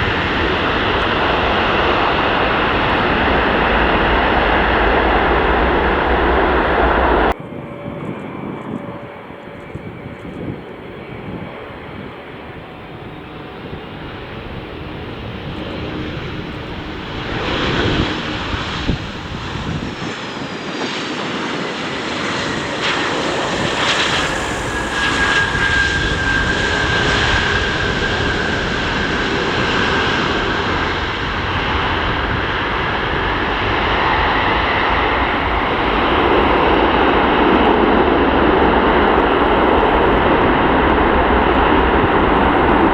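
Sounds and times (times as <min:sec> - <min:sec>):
aircraft engines whining: 0:00.0 - 0:42.9.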